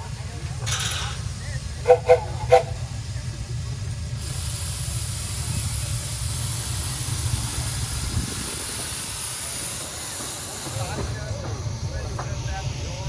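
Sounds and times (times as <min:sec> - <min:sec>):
steam locomotive hissing steam: 0:00.0 - 0:13.0.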